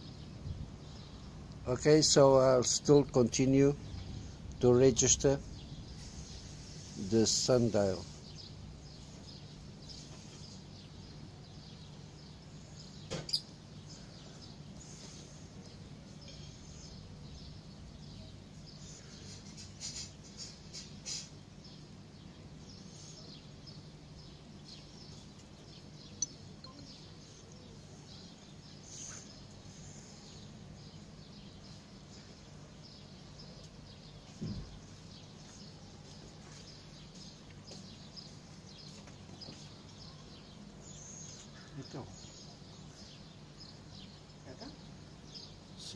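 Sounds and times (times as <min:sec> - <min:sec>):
steady low hum: 0:00.0 - 0:45.9
faint bird chirps: 0:05.3 - 0:45.9.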